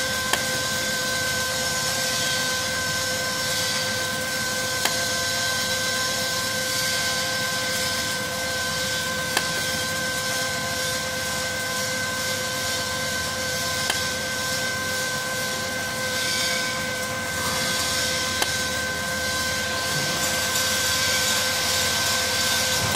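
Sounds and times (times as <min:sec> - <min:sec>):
wire feeder motor whine: 0:00.0 - 0:22.9.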